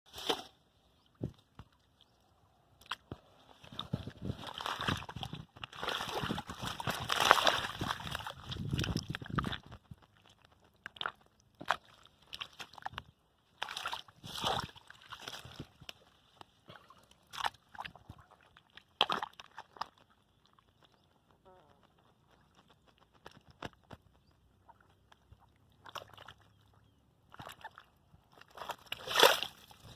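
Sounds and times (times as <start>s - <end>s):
hands splashing in muddy water: 2.8s - 20.9s, 22.2s - 29.9s.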